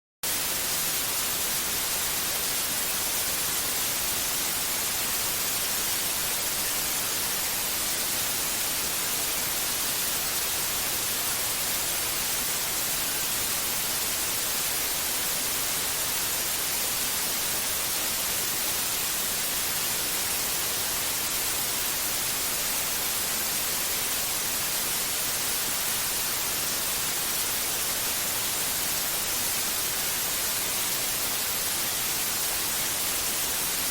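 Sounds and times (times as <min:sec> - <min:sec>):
steady white noise hiss: 0:00.2 - 0:33.9.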